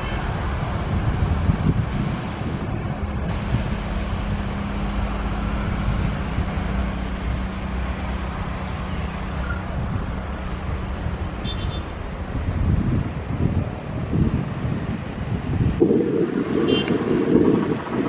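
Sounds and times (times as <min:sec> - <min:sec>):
engine drone: 0:00.0 - 0:18.0
wind buffeting microphone: 0:00.0 - 0:18.0.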